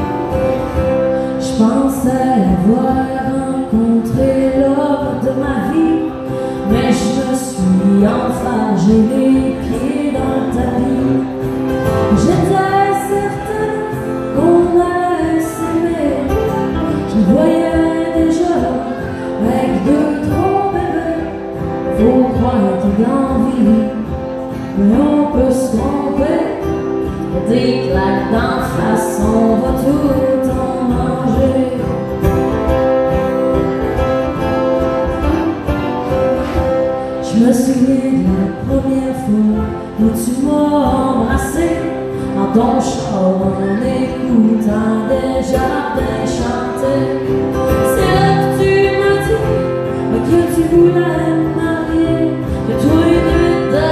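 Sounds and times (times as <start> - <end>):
strummed acoustic guitars: 0.0 - 53.9
woman singing: 0.9 - 33.4, 36.9 - 53.9.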